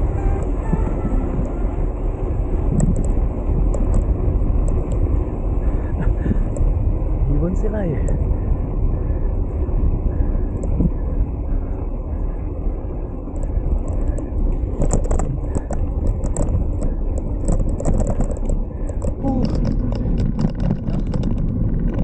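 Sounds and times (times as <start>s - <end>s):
road rumble: 0.0s - 22.0s
wind buffeting microphone: 0.0s - 22.0s.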